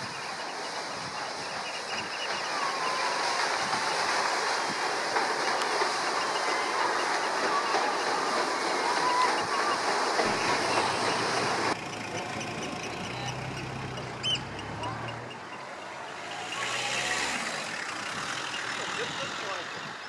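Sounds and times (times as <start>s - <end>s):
paddle wheels churning water: 0.0s - 20.0s.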